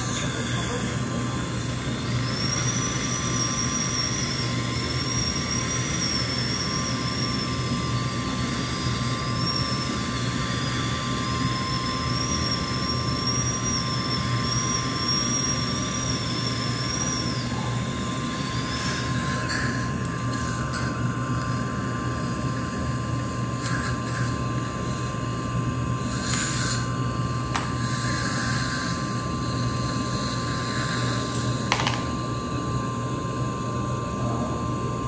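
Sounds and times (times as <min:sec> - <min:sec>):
dental drill whining: 0:00.0 - 0:32.7
dental suction hiss and hum: 0:00.0 - 0:32.9.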